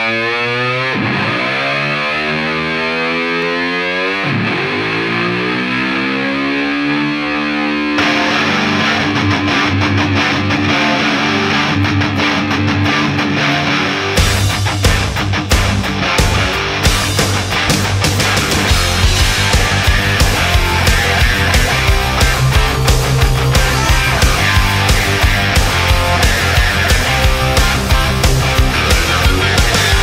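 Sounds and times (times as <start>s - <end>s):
rock music with distorted guitar: 0.0s - 30.0s.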